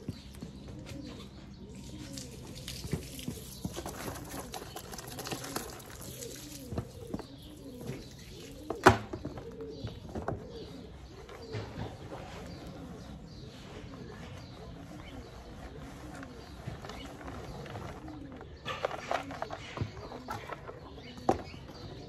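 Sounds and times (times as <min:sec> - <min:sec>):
pigeon cooing: 0:00.0 - 0:22.0.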